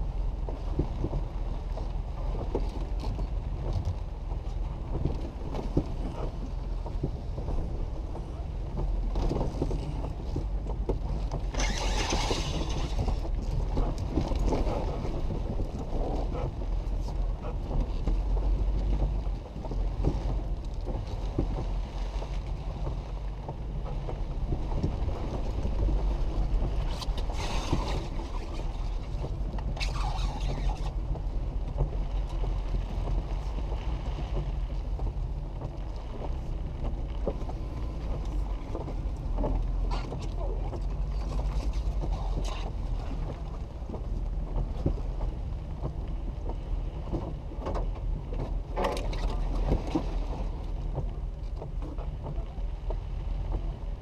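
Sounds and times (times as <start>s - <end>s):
engine and tyres rumbling: 0.0s - 54.0s
rain: 0.0s - 54.0s
wind noise: 0.0s - 54.0s.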